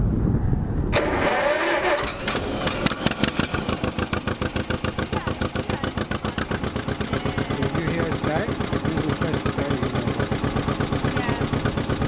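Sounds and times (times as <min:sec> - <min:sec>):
tractor engine running: 0:00.8 - 0:12.0.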